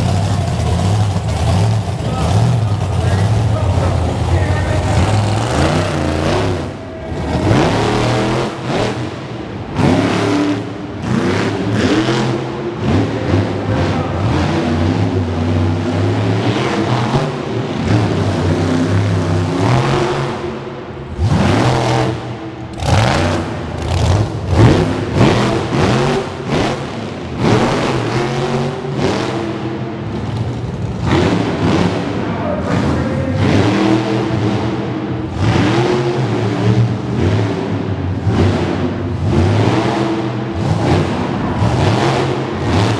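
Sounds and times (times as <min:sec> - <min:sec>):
monster truck engine revving: 0:00.0 - 0:42.9.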